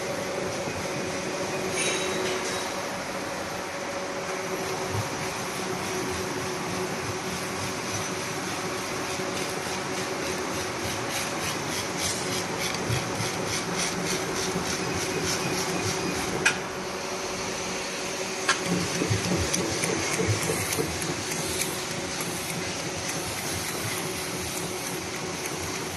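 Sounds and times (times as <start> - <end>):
machine mechanical hum: 0.0 - 25.9.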